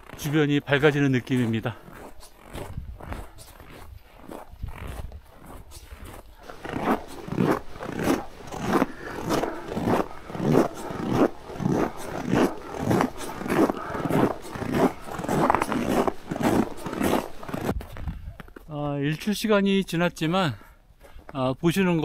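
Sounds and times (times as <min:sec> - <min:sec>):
footsteps crunching in snow: 0:00.0 - 0:18.7.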